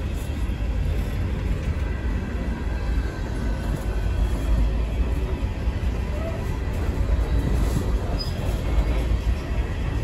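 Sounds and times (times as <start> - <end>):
freight train wheels rumbling: 0.0 - 10.0.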